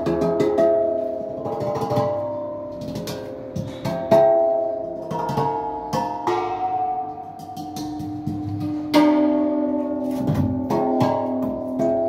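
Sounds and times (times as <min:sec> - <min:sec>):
gas cylinders struck by hand: 0:00.0 - 0:12.0.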